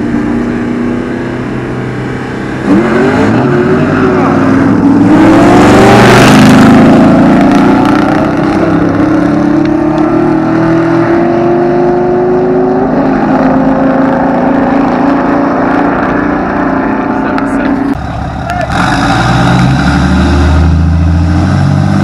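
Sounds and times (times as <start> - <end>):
truck engine accelerating: 0.0 - 22.0.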